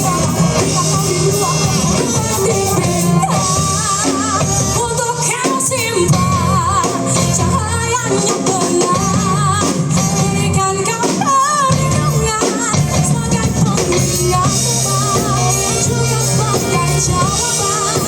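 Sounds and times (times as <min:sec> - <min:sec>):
band playing: 0:00.0 - 0:18.0.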